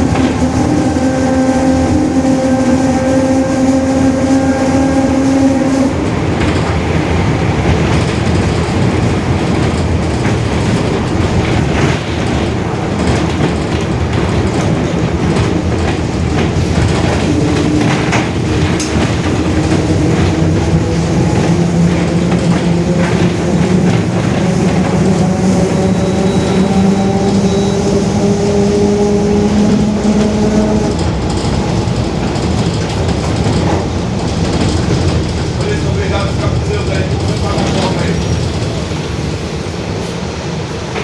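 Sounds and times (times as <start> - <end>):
bus differential whine: 0.0 - 41.0
road noise: 0.0 - 41.0.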